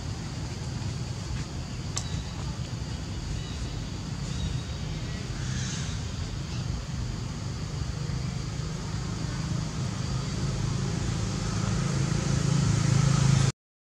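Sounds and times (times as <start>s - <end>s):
vehicle engine humming: 0.0s - 13.5s.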